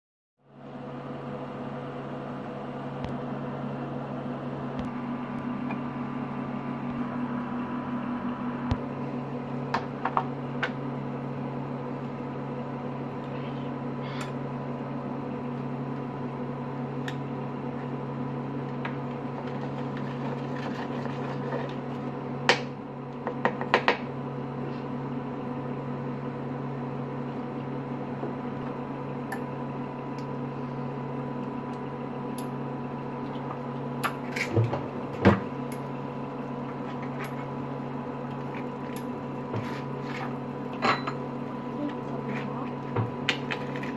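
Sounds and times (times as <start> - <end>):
appliance fan humming: 0.4 - 43.9.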